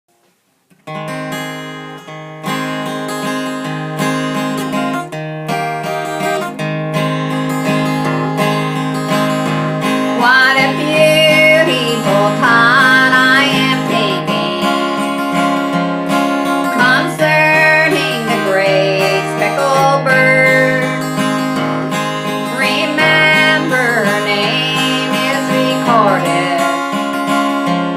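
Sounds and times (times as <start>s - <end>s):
acoustic guitar strumming: 0.2s - 27.9s
sliding lead melody: 0.9s - 27.9s.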